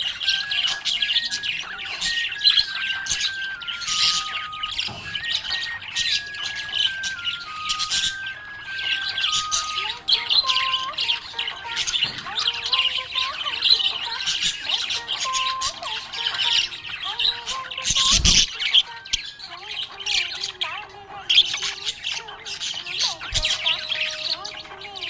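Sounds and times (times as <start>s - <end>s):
budgerigars chirping and chattering: 0.0s - 25.0s
simple background melody: 0.0s - 25.0s.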